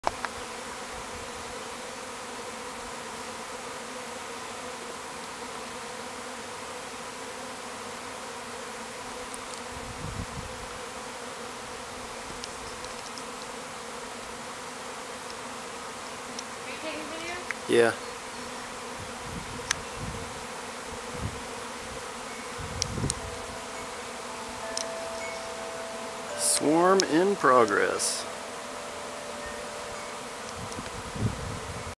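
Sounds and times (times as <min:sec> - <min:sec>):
bees buzzing: 0:00.1 - 0:31.9.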